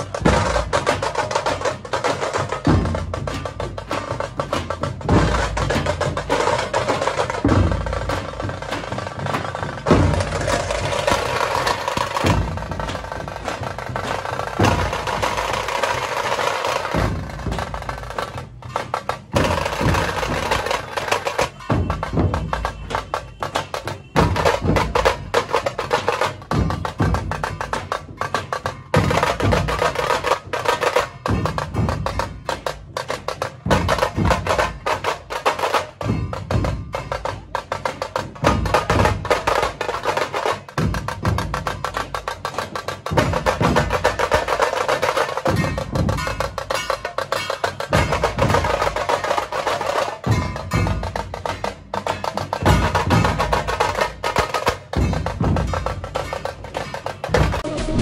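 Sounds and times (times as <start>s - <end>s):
dhol drum beats: 0.0s - 58.0s
fast drum rolls with sticks: 0.0s - 58.0s.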